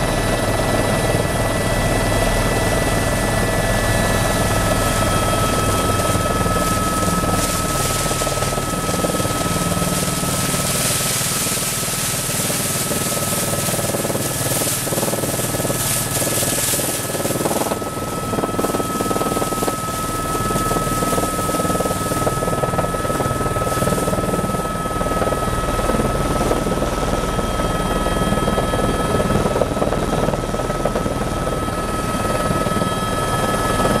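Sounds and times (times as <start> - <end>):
helicopter rotor and engine: 0.0 - 34.0.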